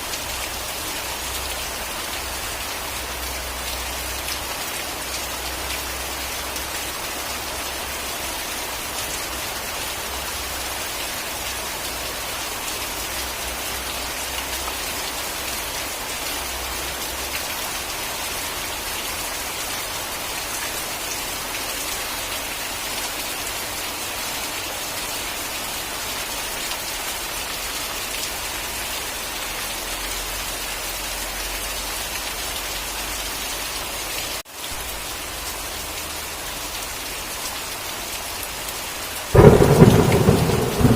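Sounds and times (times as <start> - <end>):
rain pattering on a surface: 0.0 - 40.9.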